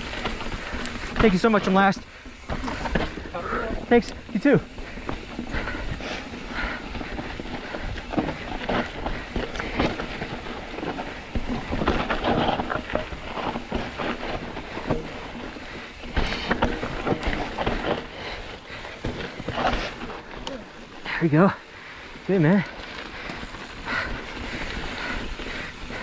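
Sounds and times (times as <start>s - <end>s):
mountain bike rattling and knocking: 0.0s - 26.0s.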